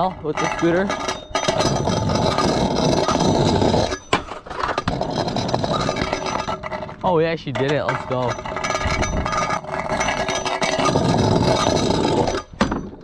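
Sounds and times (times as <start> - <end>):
scooter deck scraping on rail: 0.0 - 13.0
wheels rolling over concrete: 0.0 - 13.0.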